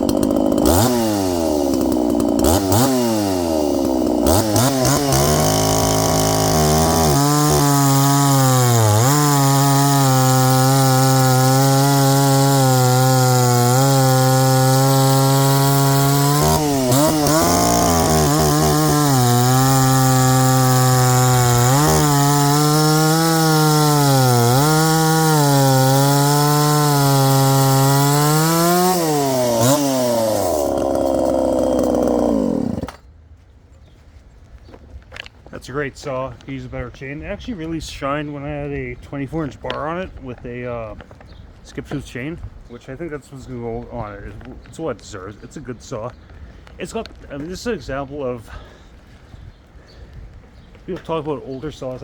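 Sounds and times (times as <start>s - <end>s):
chainsaw cutting logs: 0.0s - 33.2s, 35.2s - 52.0s.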